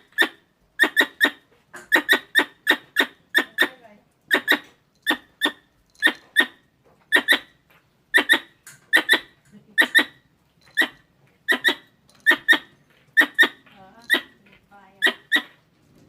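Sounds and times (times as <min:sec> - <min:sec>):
squirrel chirping: 0:00.0 - 0:15.6.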